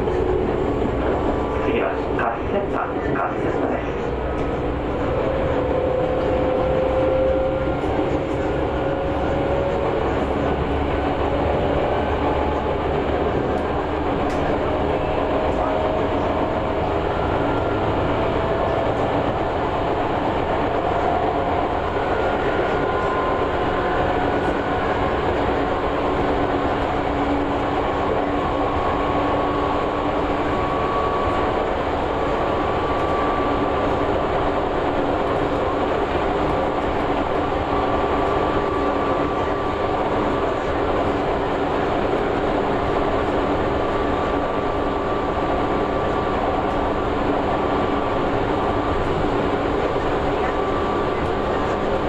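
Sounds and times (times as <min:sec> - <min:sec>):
wheels rumbling on rail: 0:00.0 - 0:52.0.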